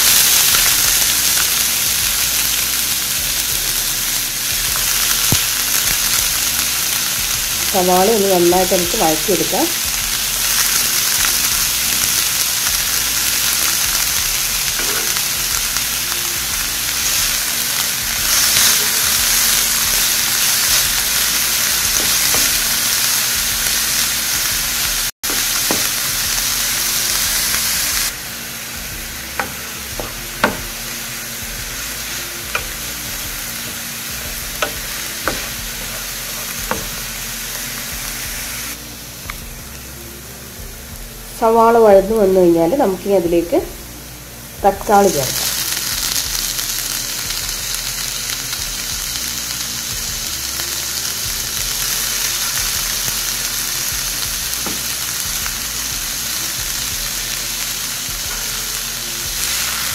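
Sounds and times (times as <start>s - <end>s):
onions sizzling in oil: 0.0s - 59.9s.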